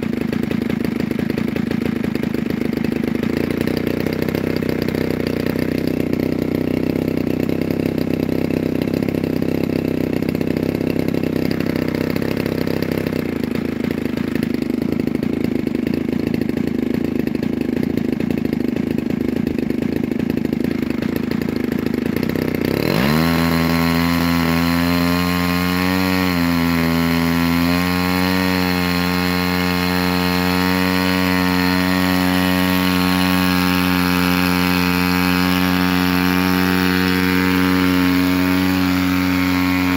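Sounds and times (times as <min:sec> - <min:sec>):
two-stroke engine with propeller: 0:00.0 - 0:39.9.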